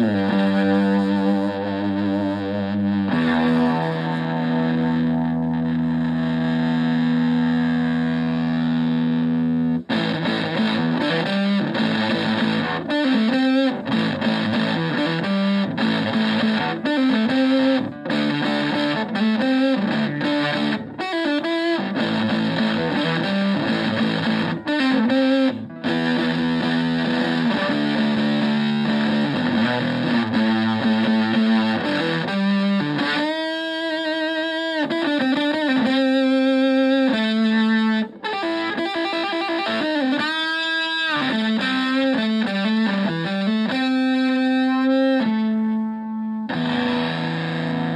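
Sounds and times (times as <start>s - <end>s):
distorted electric guitar: 0.0s - 47.9s.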